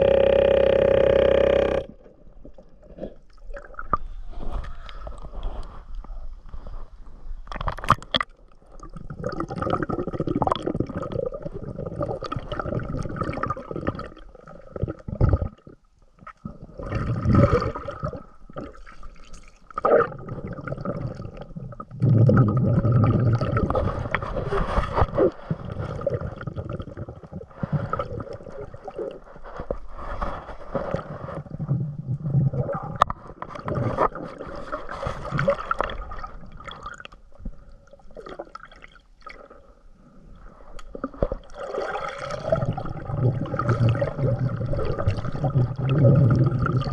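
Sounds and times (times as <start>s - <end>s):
water sloshing and gurgling: 0.0s - 46.9s.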